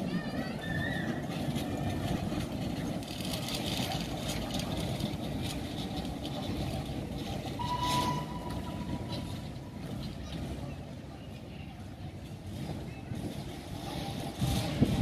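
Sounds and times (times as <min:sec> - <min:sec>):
miniature train rumbling on track: 0:00.0 - 0:15.0.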